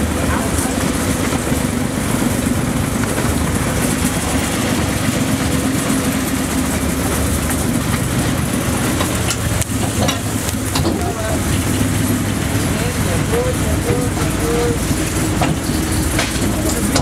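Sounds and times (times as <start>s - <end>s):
locomotive engine humming: 0.0s - 17.0s
train wheels rumbling on rails: 0.0s - 17.0s.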